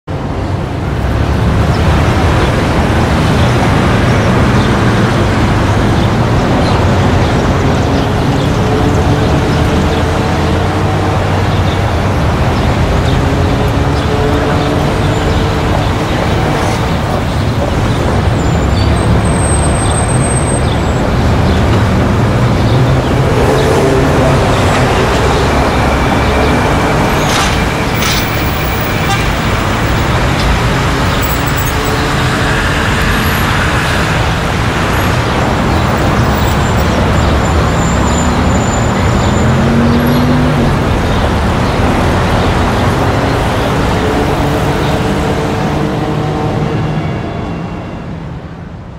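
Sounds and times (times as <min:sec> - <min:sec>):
car and bus engines passing: 0:00.1 - 0:48.9.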